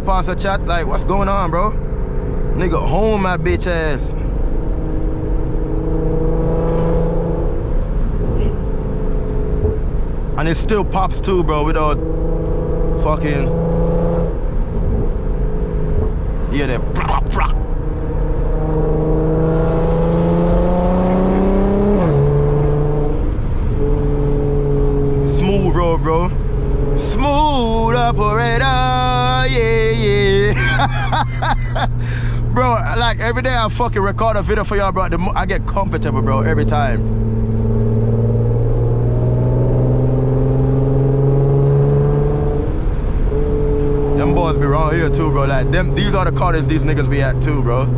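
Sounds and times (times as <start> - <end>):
car engine and exhaust revving: 0.0 - 47.9.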